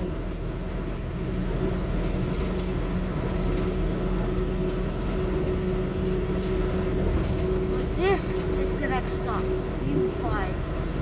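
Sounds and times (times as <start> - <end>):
train interior rumble: 0.0 - 11.0.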